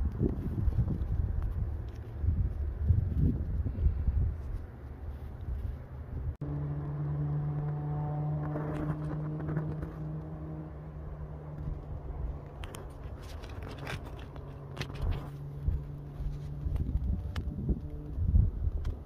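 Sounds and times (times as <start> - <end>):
wind rumble on microphone: 0.0 - 6.4, 7.3 - 19.0
distant engine hum: 0.0 - 19.0.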